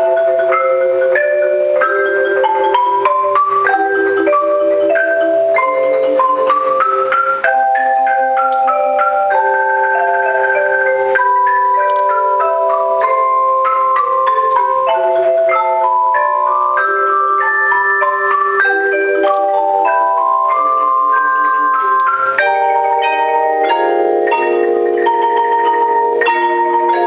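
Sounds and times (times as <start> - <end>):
mallet percussion melody: 0.0 - 27.0.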